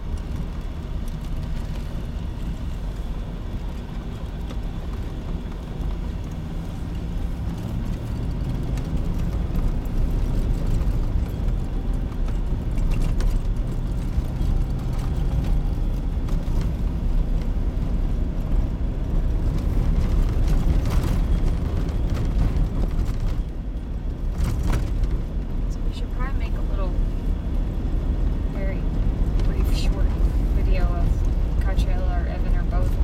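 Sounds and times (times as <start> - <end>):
engine and tyre rumble: 0.0 - 33.0.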